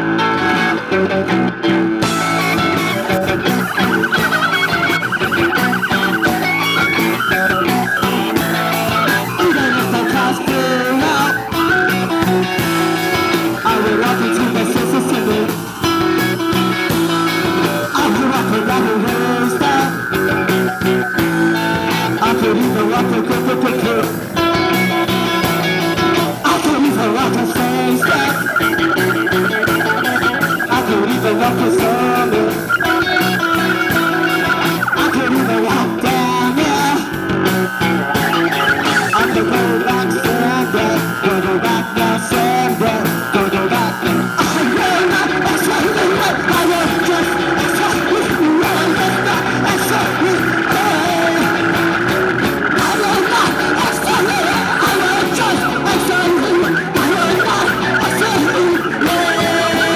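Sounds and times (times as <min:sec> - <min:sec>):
electric guitars: 0:00.0 - 0:59.9
steady drum beat: 0:01.9 - 0:59.9.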